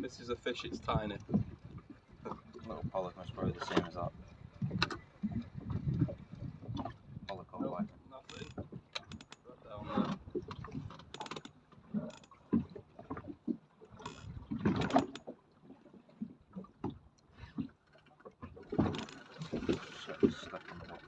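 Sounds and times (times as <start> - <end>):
water knocking and splashing on hull: 0.0 - 21.0.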